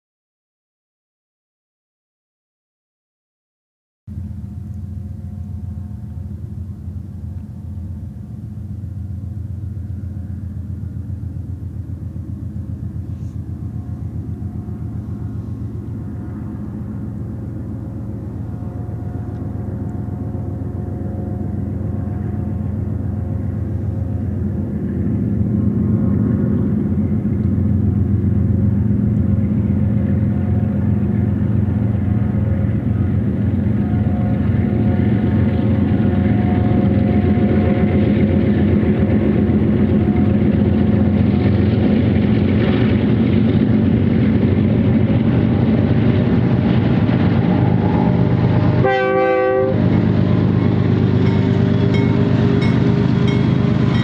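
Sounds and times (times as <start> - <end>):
diesel locomotive engine drone: 4.1 - 54.0.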